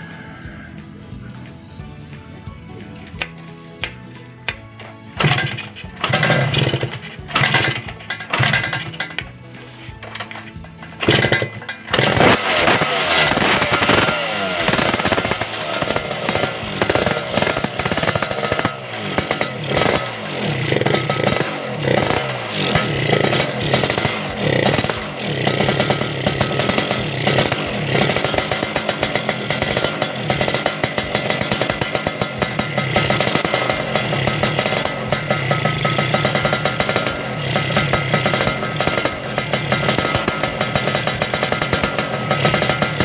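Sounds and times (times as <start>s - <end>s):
two-stroke motorcycle engine revving: 0.0s - 1.3s, 2.0s - 43.0s.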